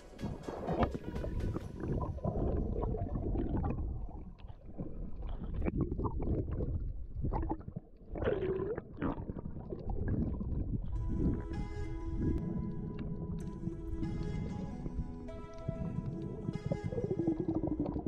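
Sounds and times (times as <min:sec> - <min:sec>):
underwater churning rumble: 0:00.2 - 0:18.0
underwater gurgle: 0:00.2 - 0:18.0.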